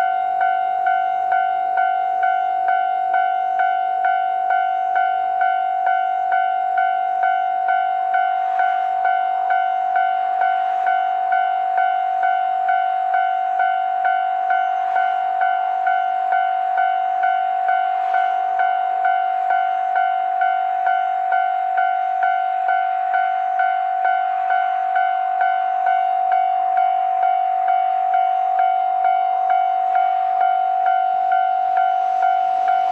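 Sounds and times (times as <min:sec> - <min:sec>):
level crossing warning bell: 0:00.0 - 0:32.9.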